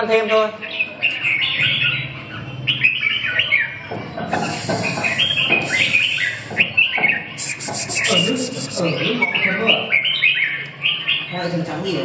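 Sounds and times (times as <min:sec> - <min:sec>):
birds chirping and whistling: 0:00.0 - 0:11.8.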